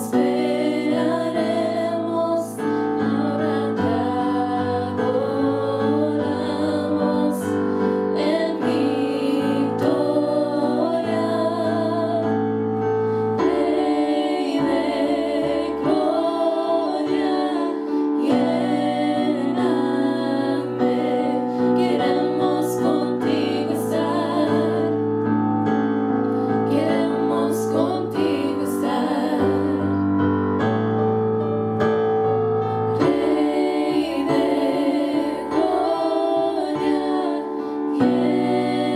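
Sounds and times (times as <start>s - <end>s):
women singing worship song: 0.0s - 25.1s, 26.4s - 30.2s, 32.9s - 38.9s
keyboard sustained chords: 0.0s - 38.9s.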